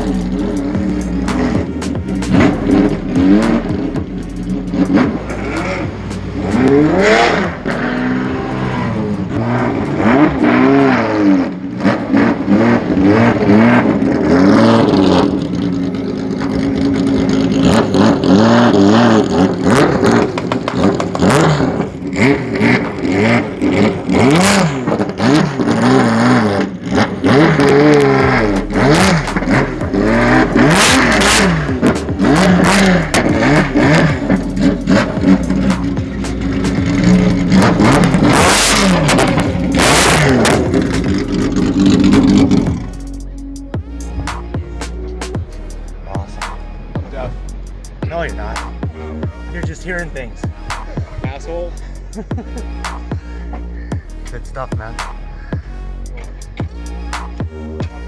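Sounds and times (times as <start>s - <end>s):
car engine revving: 0.0s - 58.0s
sharp exhaust crack: 0.0s - 58.0s.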